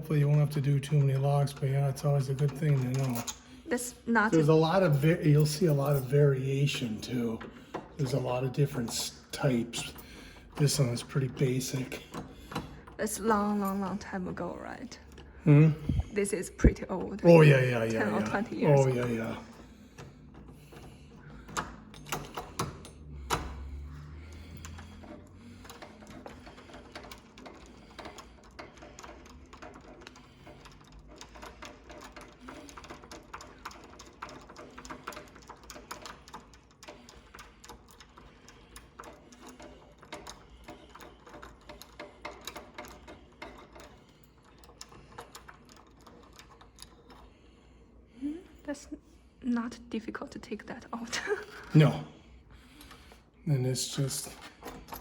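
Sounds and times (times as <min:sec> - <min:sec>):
light clicks and rattles of hardware: 0:00.0 - 0:49.3, 0:50.6 - 0:55.0.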